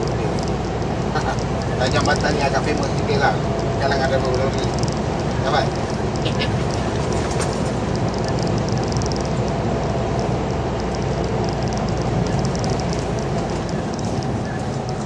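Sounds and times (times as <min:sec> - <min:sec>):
faint rattles: 0:00.0 - 0:15.0
lorry diesel engine rumble: 0:00.0 - 0:15.0.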